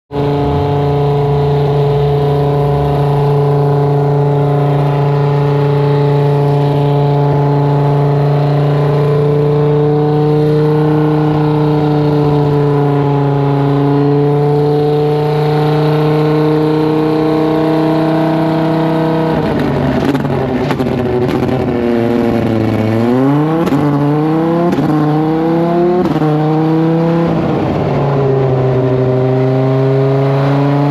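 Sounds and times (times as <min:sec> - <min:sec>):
race car engine idling and revving: 0:00.1 - 0:30.9.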